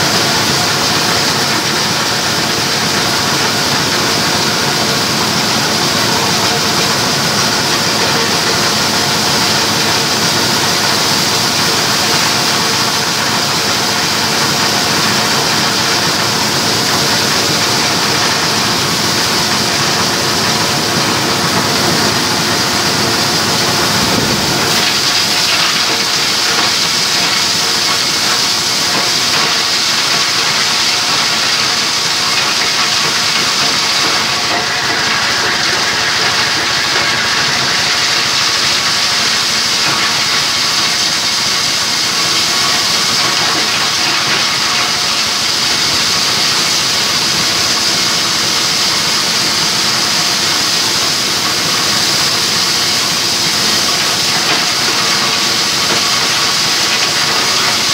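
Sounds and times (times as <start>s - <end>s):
crusher mechanical whir: 0.0s - 57.9s.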